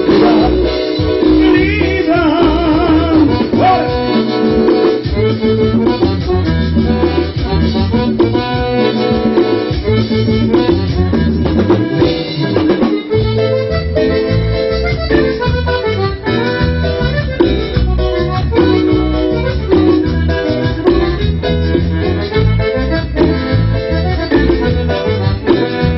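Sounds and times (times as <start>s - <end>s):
instrumental cumbia band: 0.0s - 25.9s.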